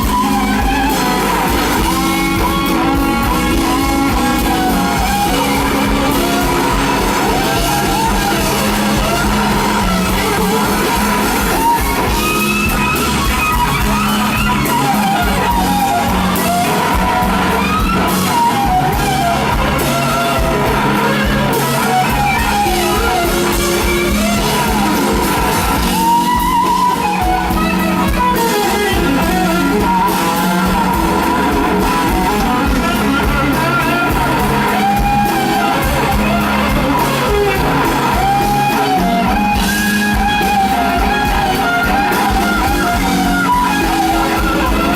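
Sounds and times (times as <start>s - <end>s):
blues rock band playing: 0.0s - 44.9s
electric guitar solo: 0.0s - 44.9s.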